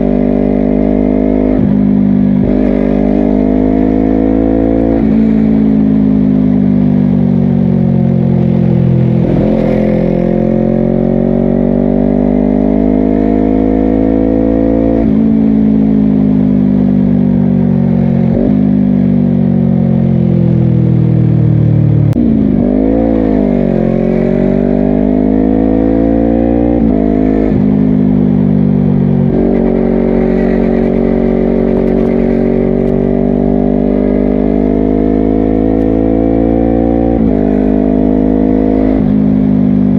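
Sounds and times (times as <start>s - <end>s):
motorcycle engine revving with gear changes: 0.0s - 39.9s.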